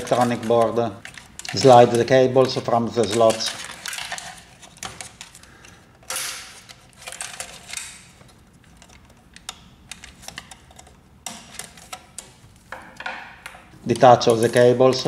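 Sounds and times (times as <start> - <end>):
wires and plastic clicking and scraping: 0.0 - 15.0.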